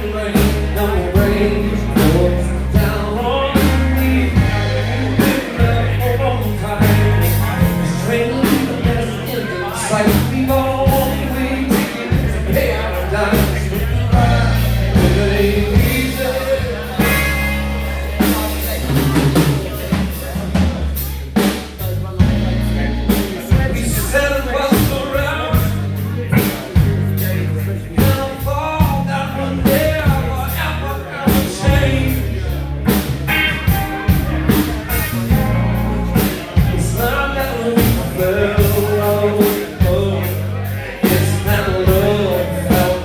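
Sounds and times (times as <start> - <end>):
rock band playing: 0.0 - 43.0.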